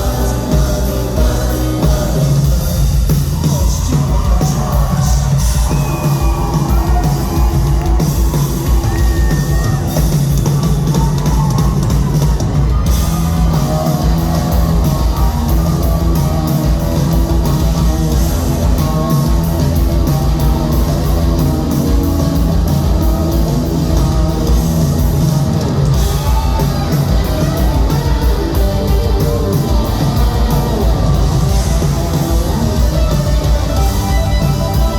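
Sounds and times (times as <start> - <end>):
drum kit: 0.0 - 34.9
electric guitars: 0.0 - 34.9.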